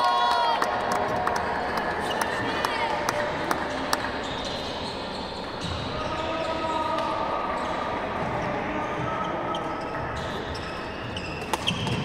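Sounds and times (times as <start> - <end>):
distant indistinct crowd voices: 0.0 - 12.0.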